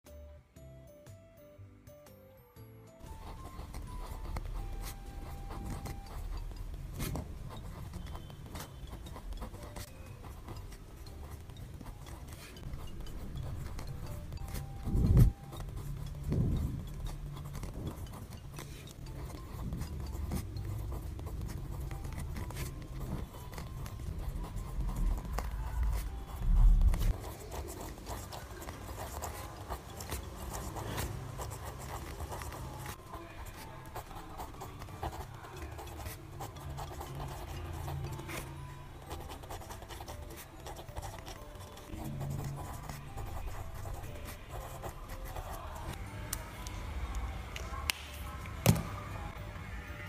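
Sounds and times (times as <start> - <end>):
pen scratching on paper: 3.0 - 46.0.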